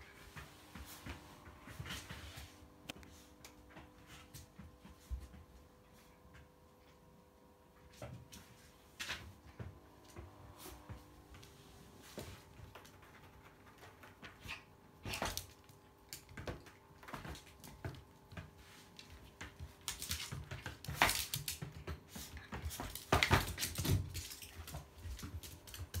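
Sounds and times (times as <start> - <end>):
paws scrabbling on wooden floor: 0.0 - 26.0.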